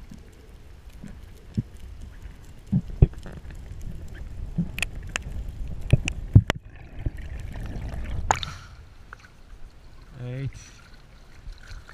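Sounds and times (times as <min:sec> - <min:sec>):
underwater rumble of moving water: 0:00.0 - 0:11.9.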